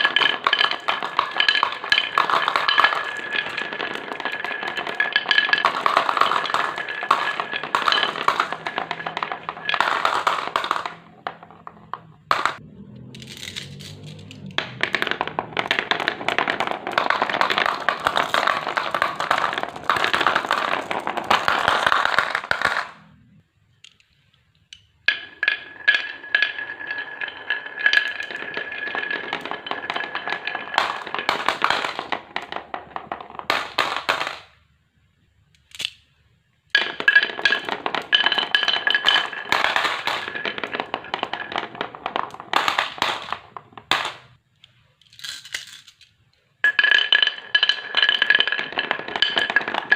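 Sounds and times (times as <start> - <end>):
marbles rolling down wooden tracks: 0.0 - 23.2, 25.0 - 34.6, 36.7 - 44.4, 46.6 - 49.9.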